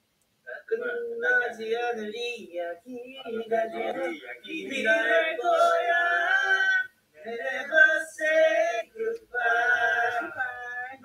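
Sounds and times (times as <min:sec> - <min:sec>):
young men singing together: 0:00.5 - 0:11.0.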